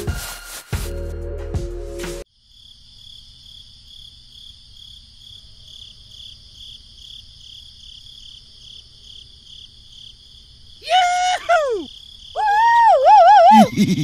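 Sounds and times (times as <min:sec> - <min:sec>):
crickets chirping: 0:02.3 - 0:14.0.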